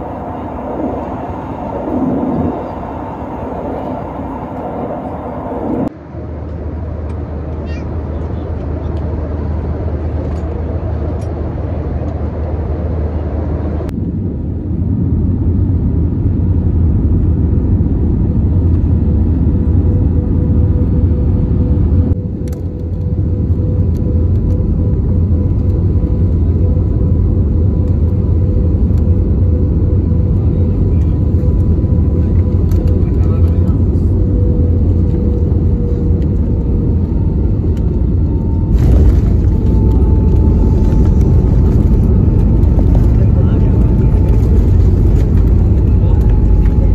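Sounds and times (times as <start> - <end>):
engine and airflow rumble: 0.0 - 46.9.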